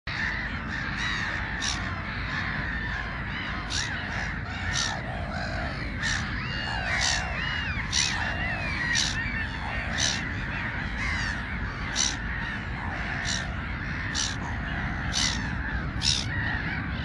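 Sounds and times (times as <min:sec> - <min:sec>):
gulls calling: 0:00.1 - 0:17.0.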